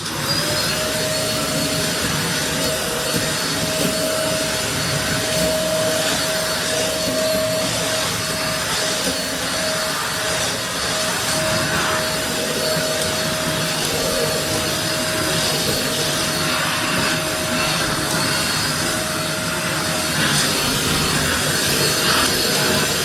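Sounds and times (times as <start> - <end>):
vacuum cleaner air rushing: 0.0 - 23.0
vacuum cleaner motor whine: 0.0 - 23.0.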